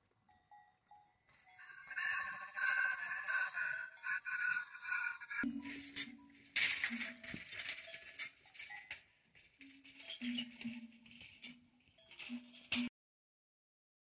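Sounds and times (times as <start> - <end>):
metal milk churn clinking and rattling: 1.3 - 12.9.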